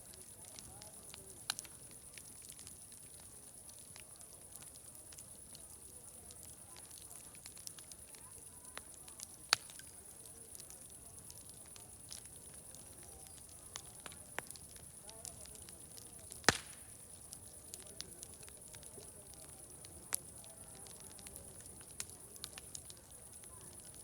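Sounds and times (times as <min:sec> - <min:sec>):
faint distant chatter: 0:00.0 - 0:24.0
loud fire pops: 0:00.0 - 0:24.0
wood fire crackling: 0:00.0 - 0:24.0.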